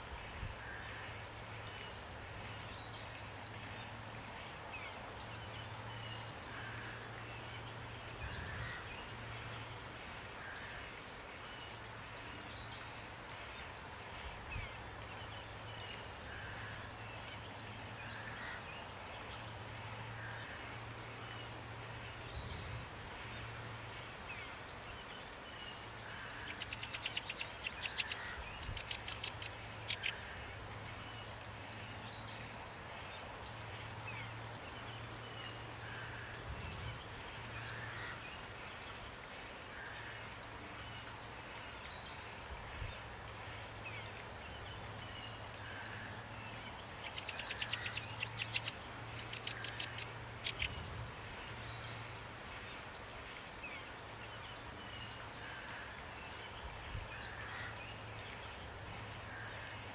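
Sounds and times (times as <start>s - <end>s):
songbirds chirping: 0.0s - 59.9s
steady rain hiss: 0.0s - 59.9s.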